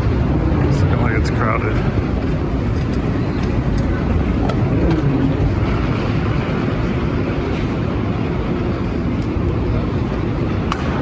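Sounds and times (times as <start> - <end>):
low rumble of people-mover train: 0.0 - 11.0.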